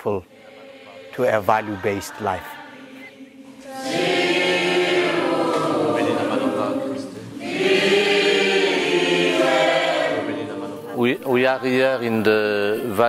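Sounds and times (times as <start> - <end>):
choir singing a hymn: 0.0 - 13.0.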